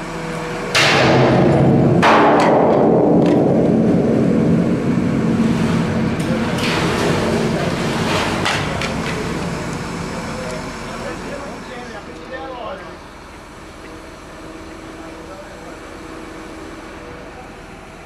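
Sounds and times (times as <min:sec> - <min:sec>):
crane engine humming: 0:00.0 - 0:18.0.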